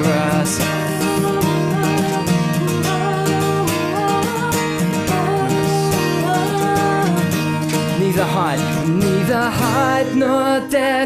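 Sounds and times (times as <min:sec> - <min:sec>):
worship band music: 0:00.0 - 0:10.6
acoustic guitar: 0:00.0 - 0:11.0.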